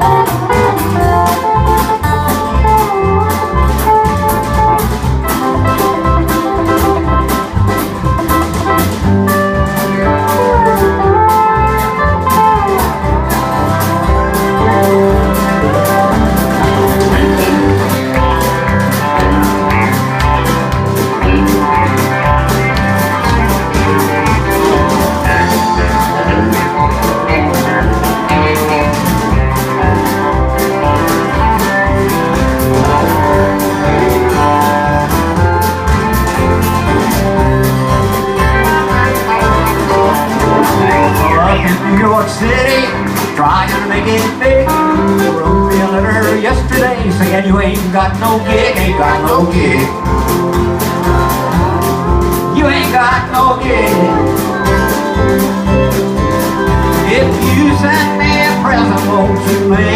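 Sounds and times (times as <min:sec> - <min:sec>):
lead guitar with bent notes: 0:00.0 - 0:59.9
live country band playing: 0:00.0 - 0:59.9.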